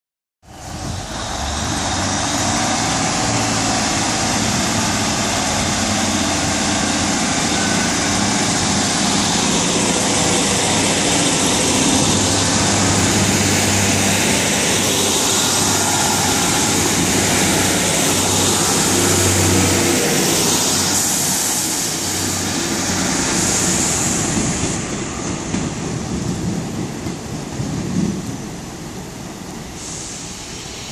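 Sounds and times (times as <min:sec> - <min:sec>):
diesel train passing: 0:00.4 - 0:30.9
wheels rumbling on rails: 0:00.4 - 0:30.9
diesel engines humming: 0:00.5 - 0:26.9.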